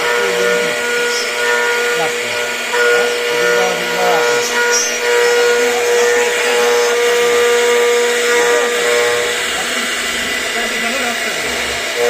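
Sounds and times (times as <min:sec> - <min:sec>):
hiss of bit cutting: 0:00.0 - 0:12.0
router spindle whining: 0:00.0 - 0:12.0.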